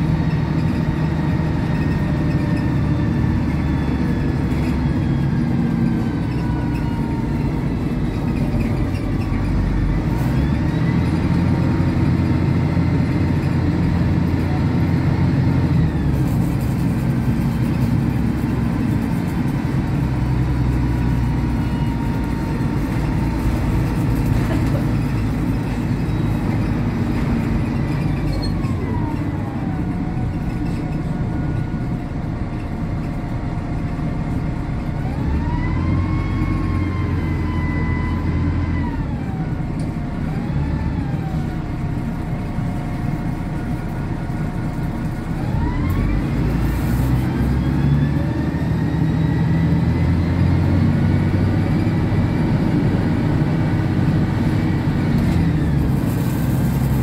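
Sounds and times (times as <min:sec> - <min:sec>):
diesel bus engine rumble: 0:00.0 - 0:57.0
road noise: 0:00.0 - 0:57.0.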